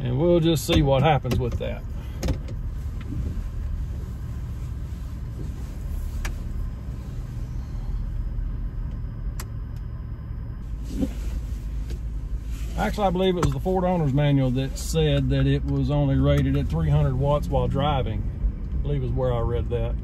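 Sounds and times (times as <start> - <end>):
low engine and road rumble: 0.0 - 20.0.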